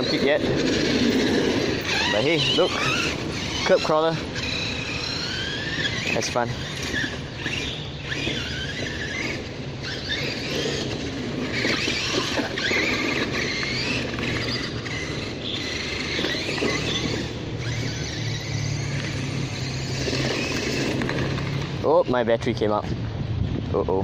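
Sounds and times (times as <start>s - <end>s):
electric motor whining: 0.0s - 22.7s.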